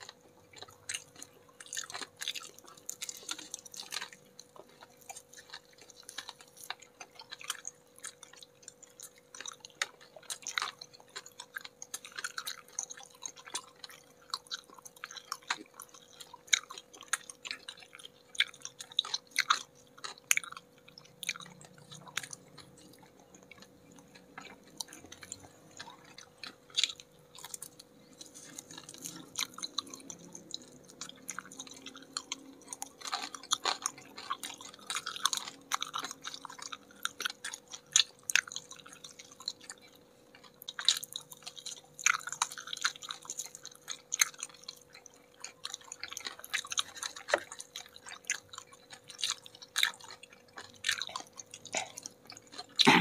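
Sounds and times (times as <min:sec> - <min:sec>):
faint steady hum: 0:00.0 - 0:53.0
people crunching fried chicken: 0:00.0 - 0:53.0.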